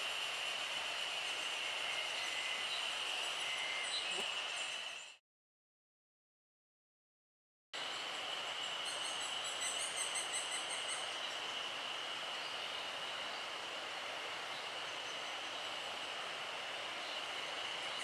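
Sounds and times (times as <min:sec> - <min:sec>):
insect drone: 0:00.0 - 0:05.2, 0:07.8 - 0:18.0.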